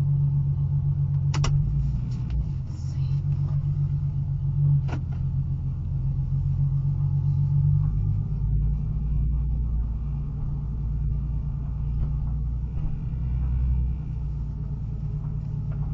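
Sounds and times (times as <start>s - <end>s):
car low rumble: 0.0s - 15.9s.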